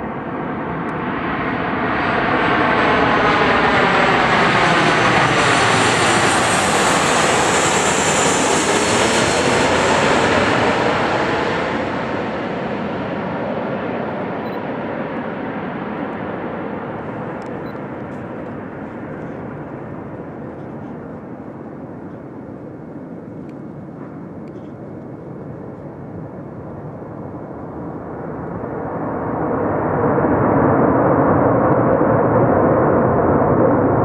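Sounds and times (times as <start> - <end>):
jet engine rush: 0.0 - 34.0.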